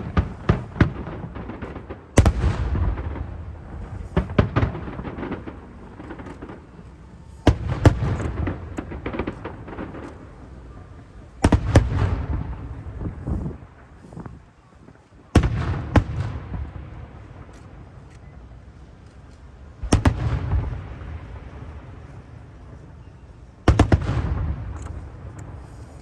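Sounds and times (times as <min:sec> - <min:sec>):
firework shells booming: 0:00.0 - 0:14.1, 0:15.3 - 0:18.0, 0:19.8 - 0:22.7, 0:23.6 - 0:25.9
rolling echo: 0:00.0 - 0:26.0.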